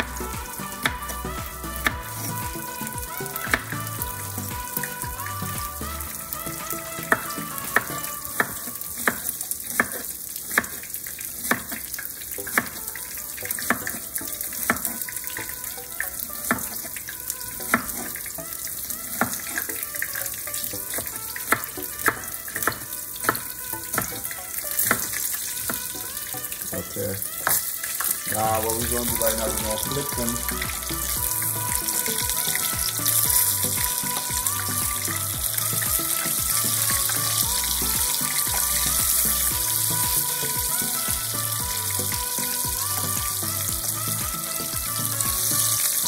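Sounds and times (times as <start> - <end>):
fish frying in oil: 0.0 - 46.0.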